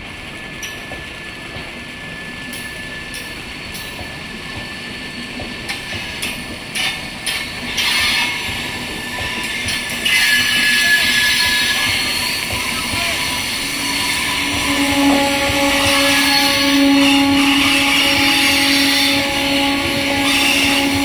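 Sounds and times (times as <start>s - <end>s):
train coaches rumbling on rails: 0.0s - 21.0s
high wheel squeal: 2.0s - 21.0s
wheels clacking over rail joints: 2.5s - 21.0s.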